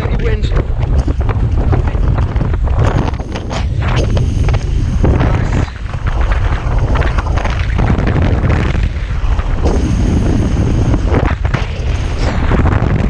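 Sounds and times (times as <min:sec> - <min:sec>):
wind buffeting microphone: 0:00.0 - 0:13.0
water rushing along a hull: 0:00.6 - 0:13.0.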